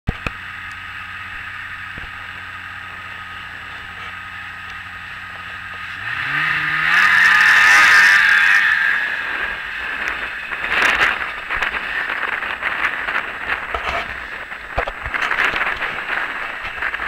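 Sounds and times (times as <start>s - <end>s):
snowmobile engine revving: 0.3s - 17.0s.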